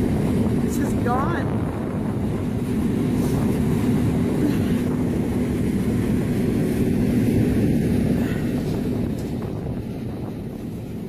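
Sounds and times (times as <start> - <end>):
engine running rumble: 0.0 - 11.0.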